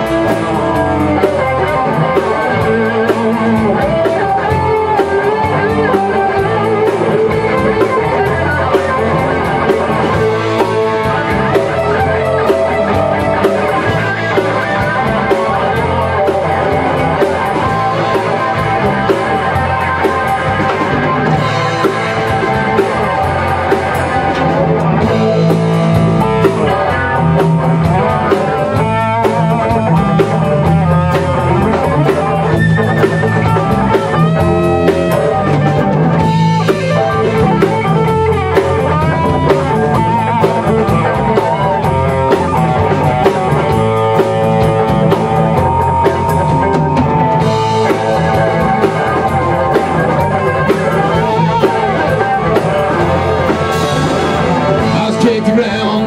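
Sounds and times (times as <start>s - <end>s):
bass guitar: 0.0s - 56.0s
drum kit: 0.0s - 56.0s
electric guitars: 0.0s - 56.0s
lead guitar with bending notes: 0.0s - 56.0s.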